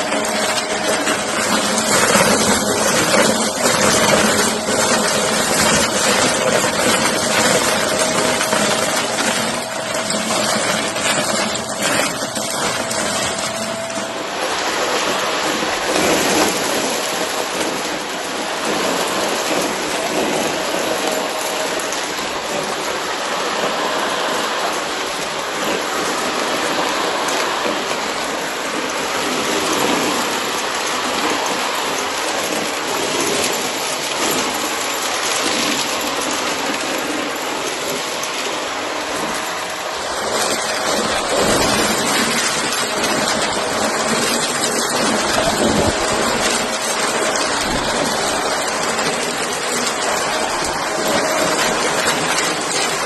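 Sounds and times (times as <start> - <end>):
debris crackling through vacuum: 0.0 - 53.0
vacuum cleaner motor running: 0.0 - 53.0.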